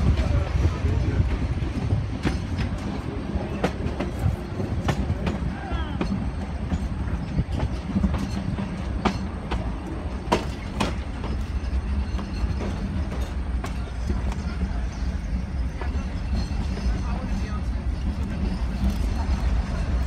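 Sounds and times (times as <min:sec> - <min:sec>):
train carriage rumbling: 0:00.0 - 0:20.0
wheels clacking over rail joints: 0:00.0 - 0:20.0.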